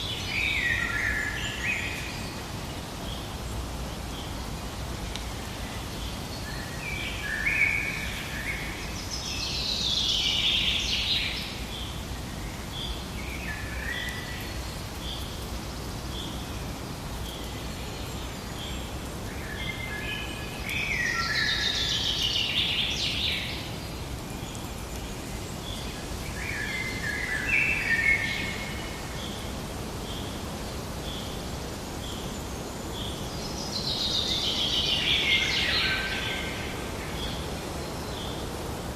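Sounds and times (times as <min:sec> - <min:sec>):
low background noise: 0:00.0 - 0:38.9
songbirds singing: 0:00.0 - 0:38.9.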